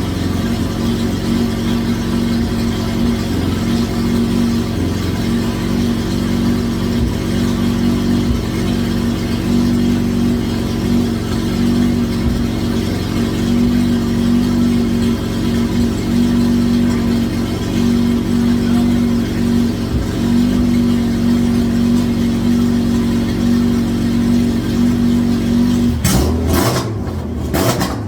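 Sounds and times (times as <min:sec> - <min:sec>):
car engine running steadily: 0:00.0 - 0:28.0.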